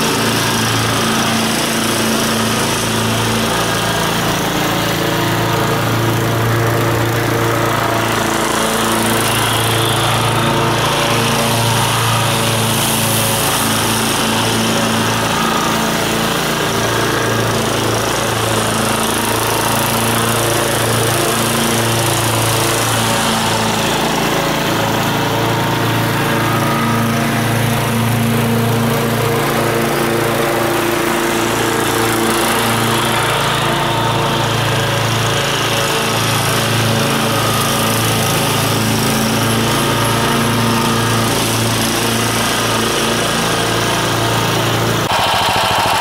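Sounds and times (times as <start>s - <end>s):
lawn mower engine running: 0.0s - 46.0s.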